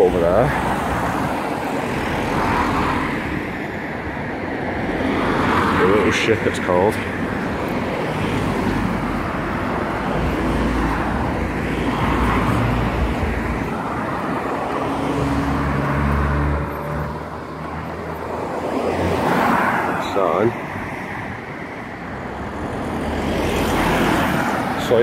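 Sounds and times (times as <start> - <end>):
cars driving past: 0.0 - 25.0.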